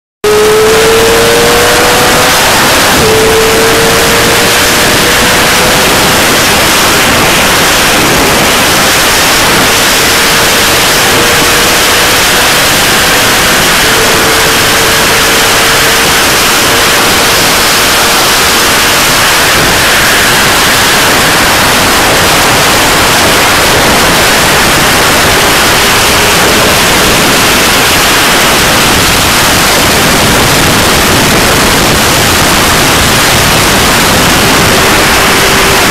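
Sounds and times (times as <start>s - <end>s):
motorcycle engine: 0.0s - 35.9s
loud wind roar on microphone: 0.2s - 35.9s.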